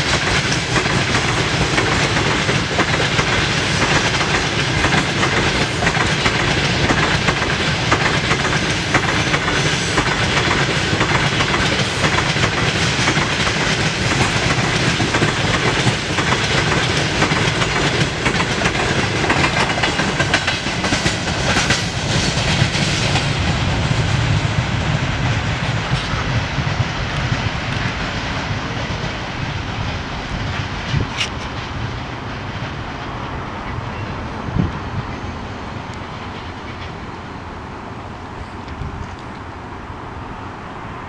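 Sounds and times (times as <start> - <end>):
train wheels clattering over joints: 0.0 - 34.8.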